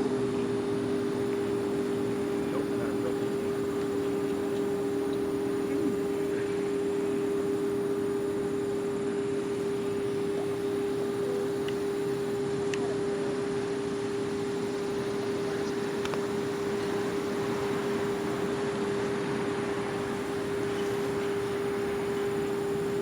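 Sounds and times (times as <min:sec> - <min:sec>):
warning siren steady chord: 0:00.0 - 0:12.5, 0:13.6 - 0:23.0.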